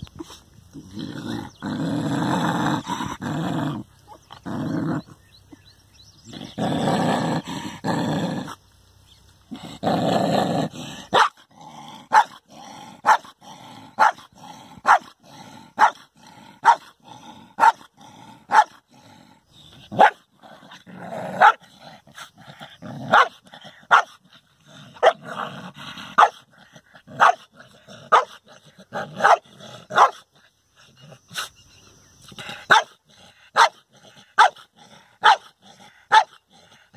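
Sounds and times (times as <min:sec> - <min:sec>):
dog growling: 0:00.2 - 0:05.3, 0:06.2 - 0:08.6, 0:09.5 - 0:31.3, 0:32.3 - 0:36.9.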